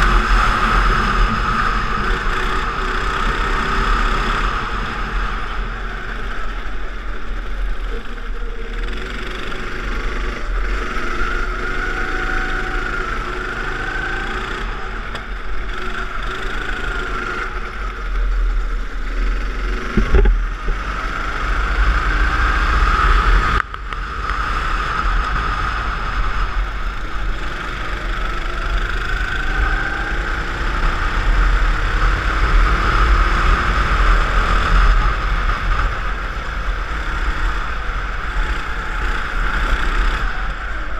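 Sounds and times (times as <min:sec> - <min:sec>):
go-kart engine revving: 0:00.0 - 0:40.9.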